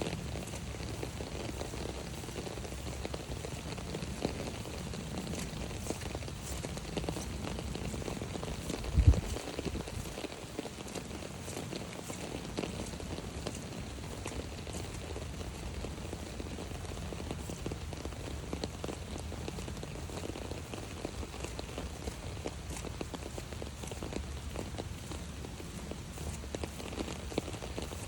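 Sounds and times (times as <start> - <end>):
rain pattering on an umbrella: 0.0 - 28.0.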